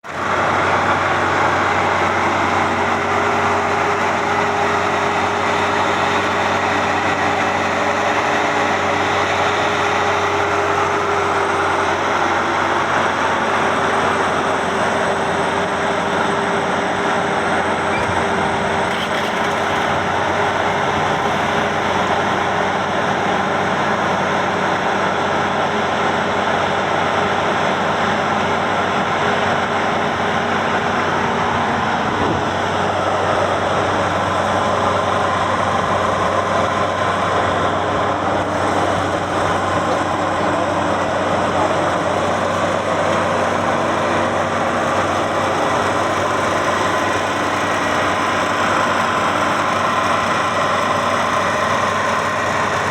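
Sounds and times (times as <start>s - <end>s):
harvester engine humming and whining: 0.0s - 52.9s.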